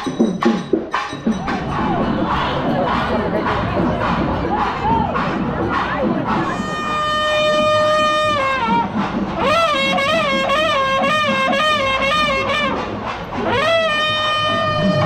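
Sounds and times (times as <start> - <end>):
crowd noise: 0.0 - 15.0
reed wind instrument melody: 0.0 - 15.0.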